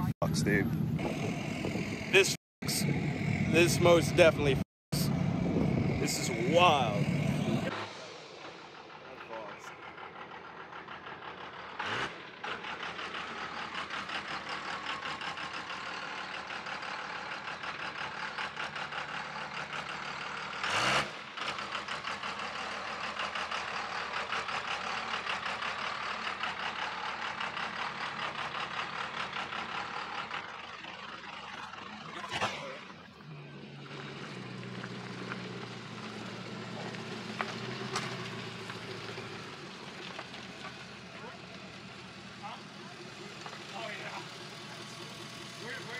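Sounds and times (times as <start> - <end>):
diesel truck engine: 0.0 - 45.9.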